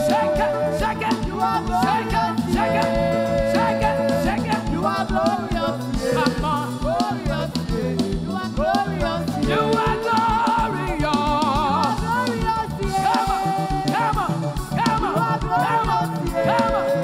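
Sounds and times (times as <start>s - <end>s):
drum beat: 0.0s - 17.0s
gospel band music: 0.0s - 17.0s.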